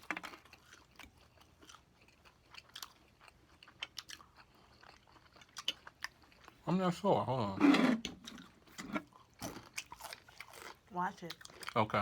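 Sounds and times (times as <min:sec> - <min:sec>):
person chewing crispy food: 0:00.0 - 0:07.6, 0:08.2 - 0:12.0.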